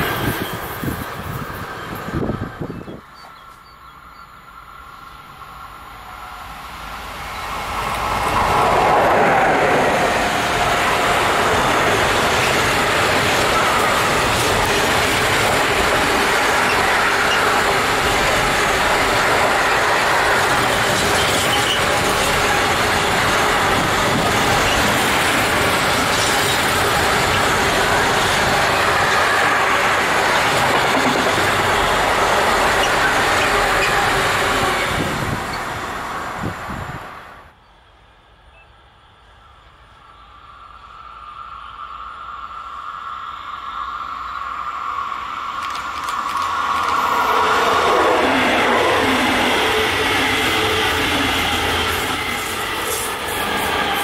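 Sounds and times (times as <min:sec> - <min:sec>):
freight train passing on rails: 0:00.0 - 0:54.0.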